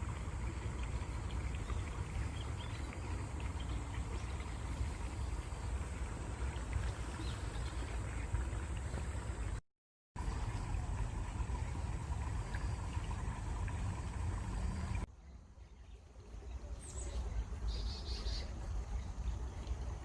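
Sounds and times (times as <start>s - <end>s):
stream flowing with splashes: 0.0s - 9.6s, 10.2s - 20.0s.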